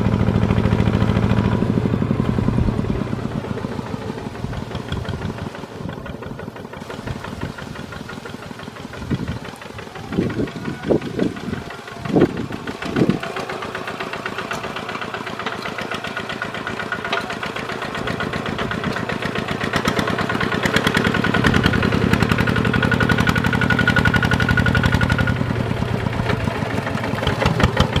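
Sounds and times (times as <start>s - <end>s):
diesel engine knocking: 0.0s - 28.0s.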